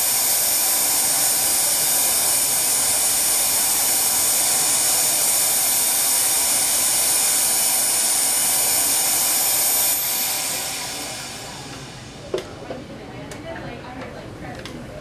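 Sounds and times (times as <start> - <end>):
dense electronic noise hiss: 0.0 - 13.1.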